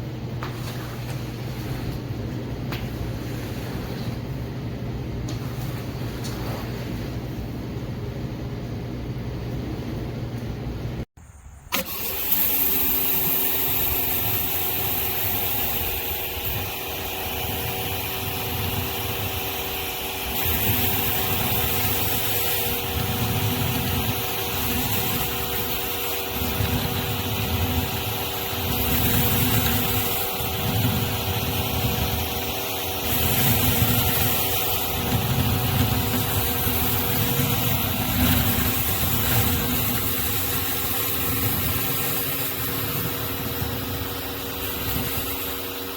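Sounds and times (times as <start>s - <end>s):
pressure washer spraying: 0.4s - 4.4s, 11.7s - 45.9s.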